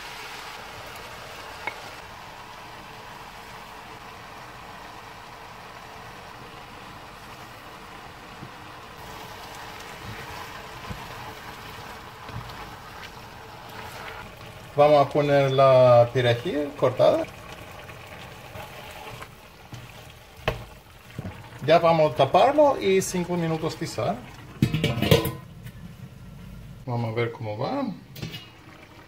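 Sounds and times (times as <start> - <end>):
vegetables sizzling in a pan: 0.0 - 26.8.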